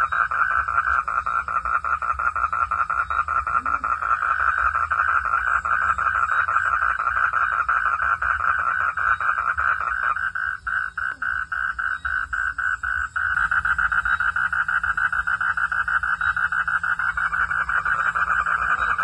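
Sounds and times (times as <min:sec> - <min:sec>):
frogs croaking: 0:00.0 - 0:19.0.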